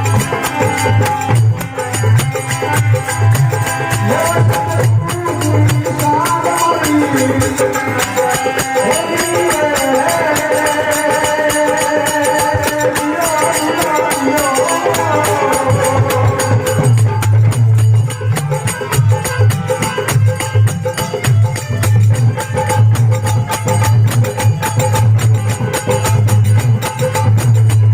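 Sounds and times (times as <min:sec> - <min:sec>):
folk music with hand drum: 0:00.0 - 0:27.9
jingling hand percussion: 0:00.0 - 0:27.9.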